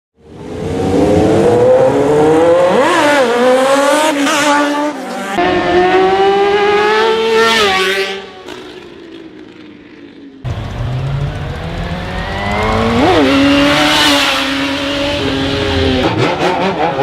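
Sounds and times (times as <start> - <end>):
motorcycle engine accelerating: 0.3 - 17.0.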